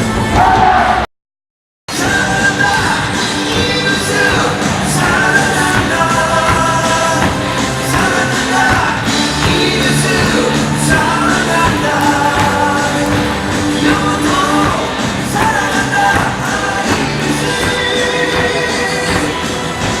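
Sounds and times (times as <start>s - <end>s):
backing music: 1.9s - 20.0s
crowd singing cheer song: 1.9s - 20.0s.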